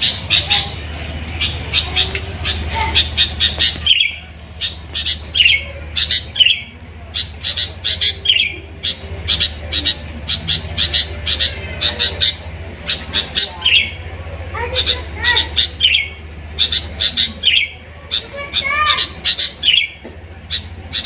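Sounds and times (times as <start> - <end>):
steady low hum: 0.0 - 21.0
bird chirping and whistling: 1.4 - 14.1, 14.8 - 21.0.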